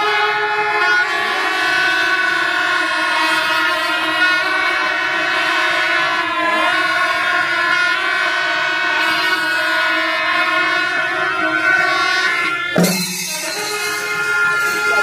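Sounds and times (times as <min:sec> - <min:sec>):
horns blaring sustained notes: 0:00.0 - 0:15.0.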